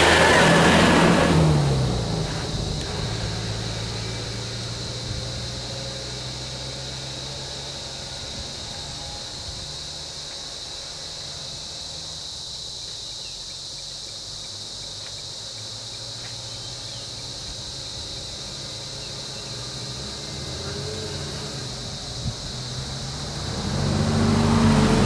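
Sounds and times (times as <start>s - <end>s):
high-pitched insect chorus: 0.0s - 25.0s
vehicle engine idling: 0.0s - 25.0s.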